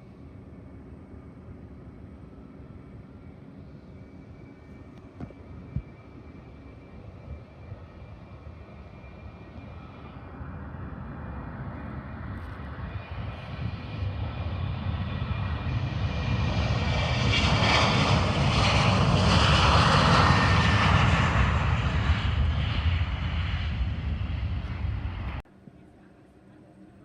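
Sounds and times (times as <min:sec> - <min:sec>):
airplane passing: 0:00.0 - 0:27.0
faint engine whine: 0:00.0 - 0:27.0.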